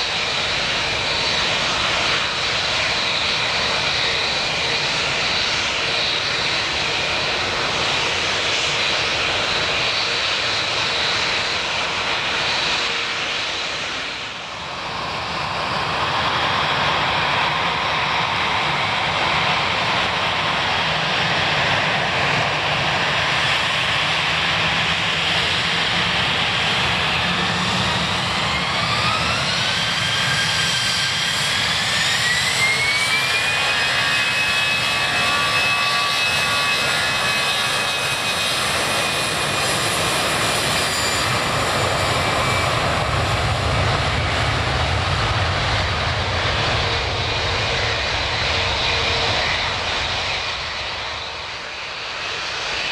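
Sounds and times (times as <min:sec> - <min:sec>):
jet engine whine: 0:00.0 - 0:52.9
loud jet engine rush: 0:00.0 - 0:52.9.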